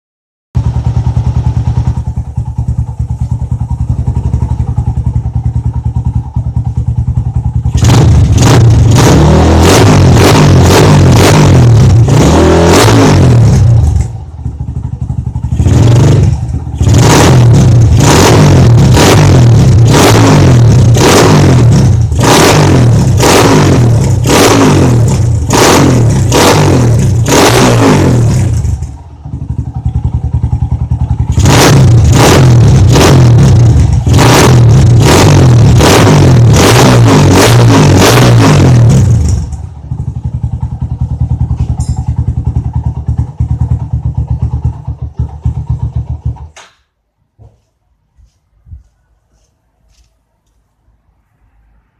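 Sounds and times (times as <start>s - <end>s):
motorcycle engine idling and revving: 0.5s - 46.7s.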